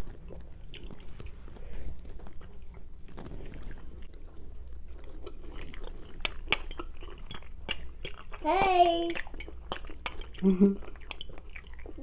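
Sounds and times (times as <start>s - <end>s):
person chewing crunchy fried chicken: 0.0s - 12.0s.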